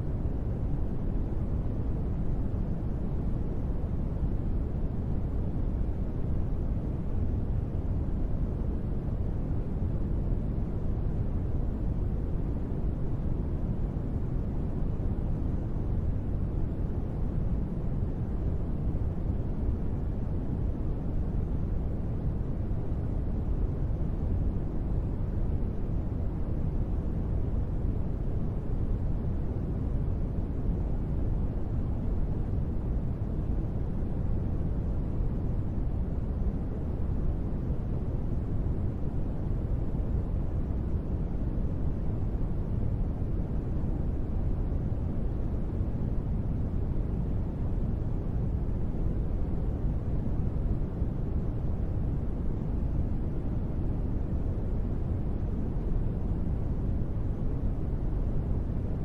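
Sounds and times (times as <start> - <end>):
deep steady noise rush: 0.0 - 59.0.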